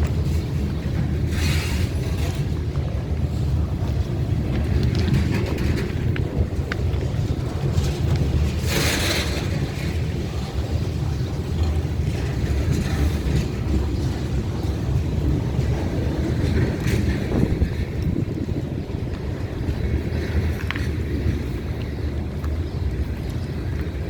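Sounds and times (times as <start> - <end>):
freight train rumbling past: 0.0 - 22.9
wind buffeting microphone: 0.0 - 24.0.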